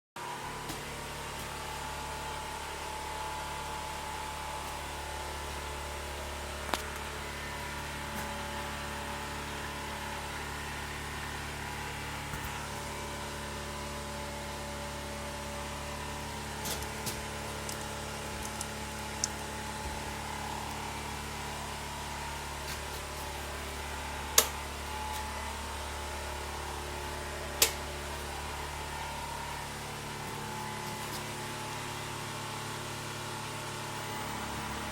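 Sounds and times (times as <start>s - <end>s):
milling machine motor humming: 0.4s - 34.9s.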